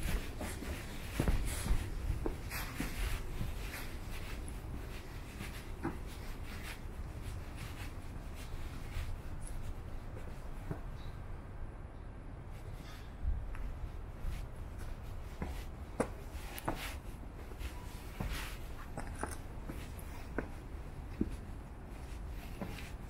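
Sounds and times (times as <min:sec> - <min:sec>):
scratchy footsteps: 0:00.0 - 0:11.0, 0:12.6 - 0:23.0
steady low rumble: 0:00.0 - 0:23.0.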